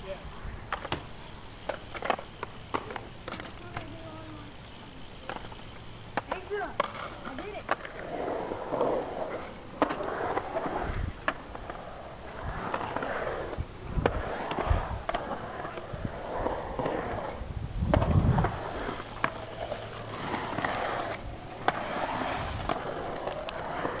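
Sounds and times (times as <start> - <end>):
bike tyres rolling on concrete: 0.0 - 24.0.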